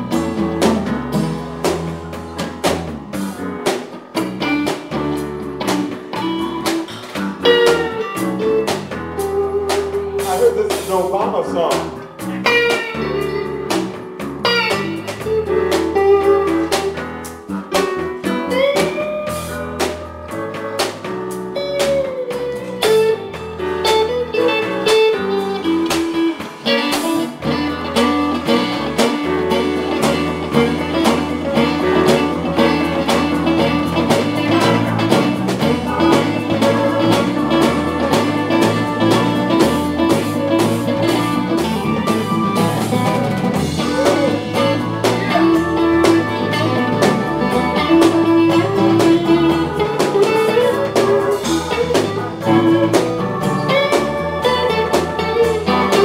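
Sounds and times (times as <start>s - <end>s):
blues band playing: 0.0s - 56.0s
lead guitar with bent notes: 0.0s - 56.0s.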